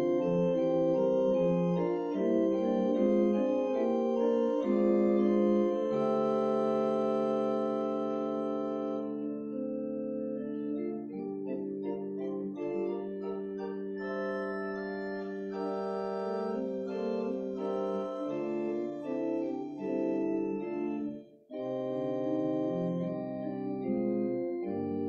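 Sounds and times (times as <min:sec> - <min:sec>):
organ playing slow chords: 0:00.0 - 0:25.0.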